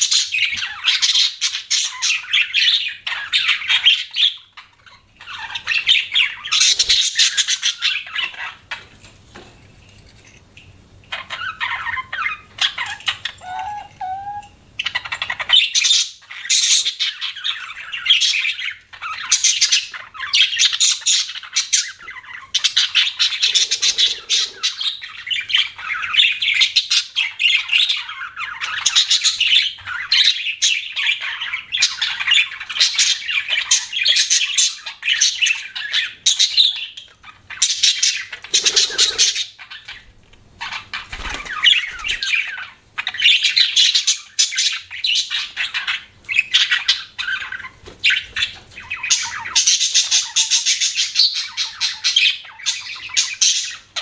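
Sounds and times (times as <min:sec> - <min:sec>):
budgerigars chattering and warbling: 0:00.0 - 0:09.0, 0:11.1 - 0:54.0.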